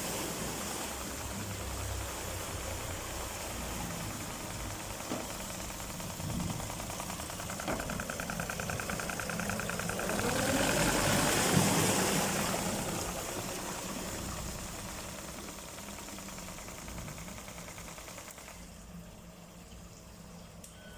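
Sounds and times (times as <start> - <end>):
outboard motor running: 0.0 - 20.6.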